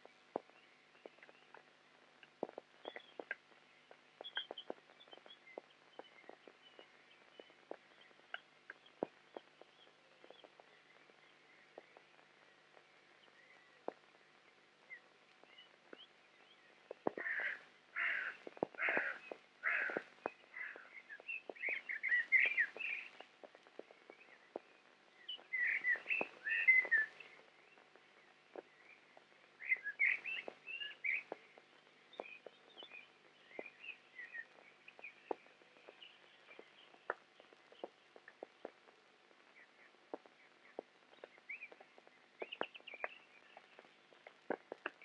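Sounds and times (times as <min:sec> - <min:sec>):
faint clicks: 0:00.0 - 0:45.0
small birds chirping: 0:00.0 - 0:45.0.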